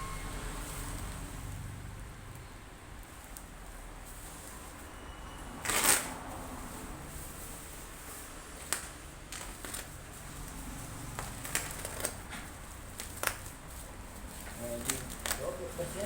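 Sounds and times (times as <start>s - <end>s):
packaging rustling and scraping: 3.0s - 16.0s.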